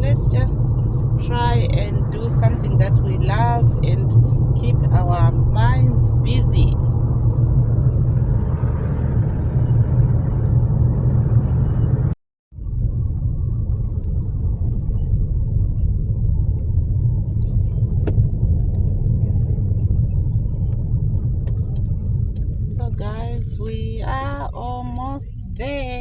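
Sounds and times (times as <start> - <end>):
road and engine rumble: 0.0 - 26.0.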